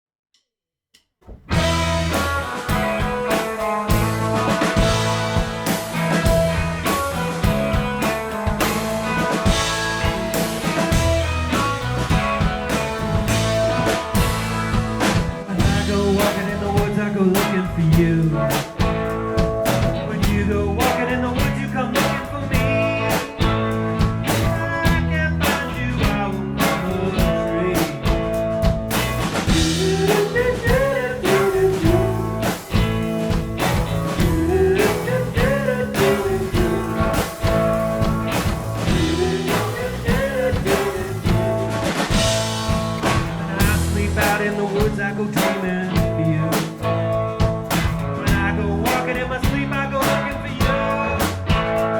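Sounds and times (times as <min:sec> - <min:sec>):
rock band playing: 0:01.4 - 0:51.9.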